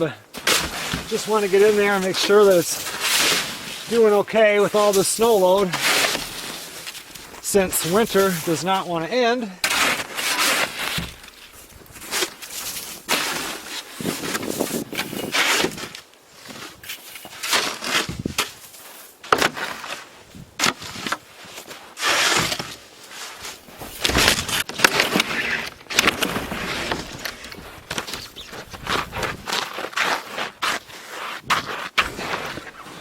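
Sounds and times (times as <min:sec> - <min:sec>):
footsteps crunching in snow: 0:00.3 - 0:33.0
snow shovel scraping snow: 0:00.3 - 0:33.0.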